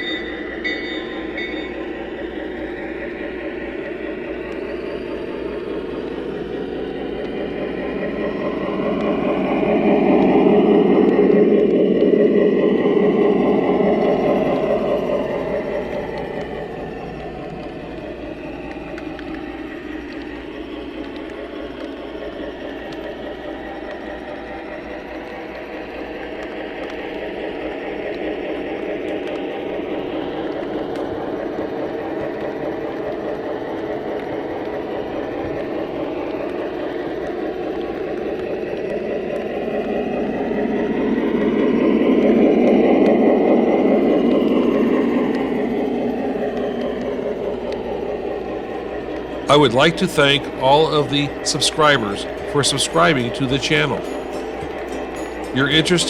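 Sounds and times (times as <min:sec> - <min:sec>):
model train car rolling: 0:00.0 - 0:56.0.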